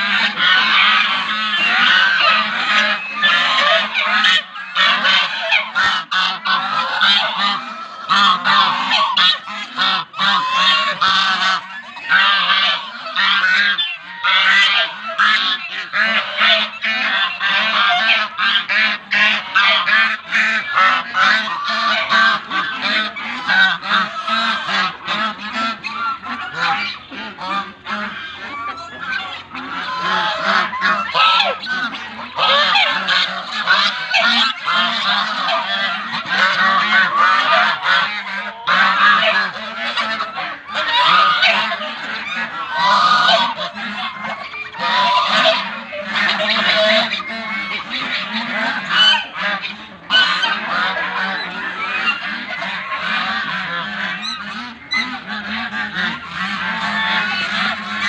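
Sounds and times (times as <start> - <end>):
geese honking: 0.0 - 58.0.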